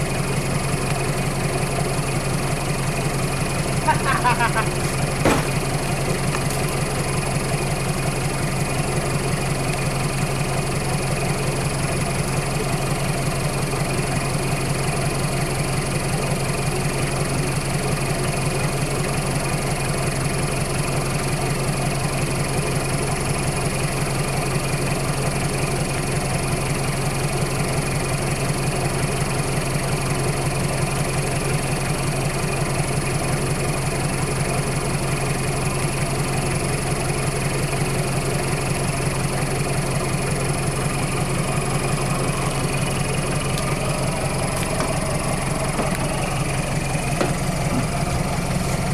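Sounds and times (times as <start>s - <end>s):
vehicle engine idling: 0.0s - 48.9s.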